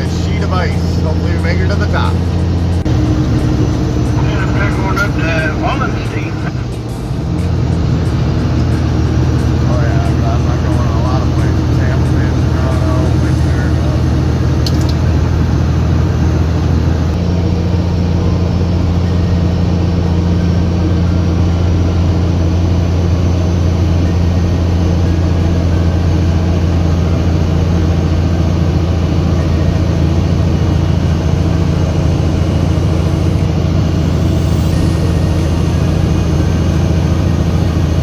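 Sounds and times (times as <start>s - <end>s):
truck diesel engine droning: 0.0s - 38.0s.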